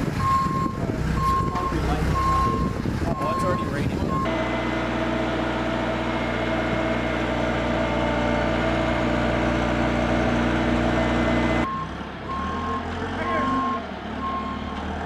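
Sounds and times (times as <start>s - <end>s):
engine idling: 0.2s - 14.5s.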